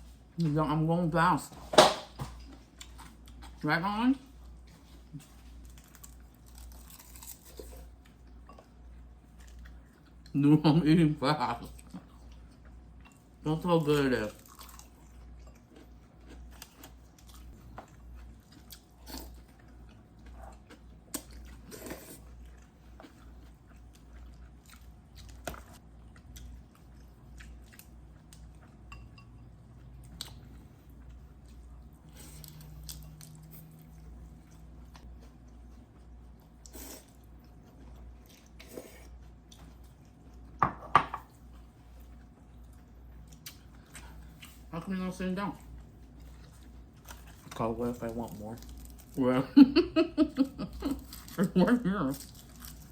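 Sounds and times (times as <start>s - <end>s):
person chewing and crunching food: 2.3s - 3.6s, 4.2s - 10.4s, 11.6s - 40.6s, 41.2s - 44.7s, 45.5s - 49.4s, 50.3s - 52.9s.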